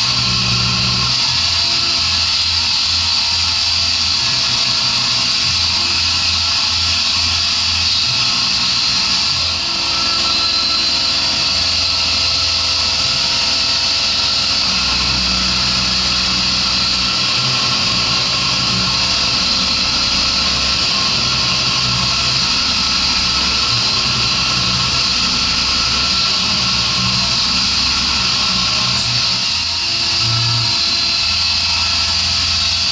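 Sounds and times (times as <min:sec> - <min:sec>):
milling spindle running: 0:00.0 - 0:32.9
stepper motors humming: 0:00.0 - 0:32.9.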